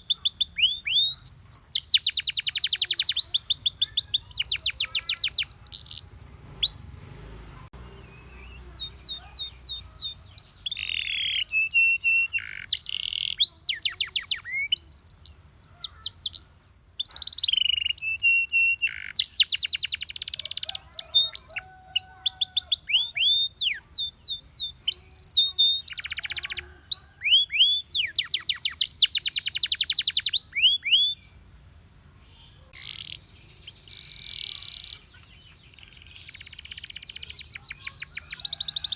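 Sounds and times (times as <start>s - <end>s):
canary singing: 0.0s - 31.6s, 32.2s - 38.9s.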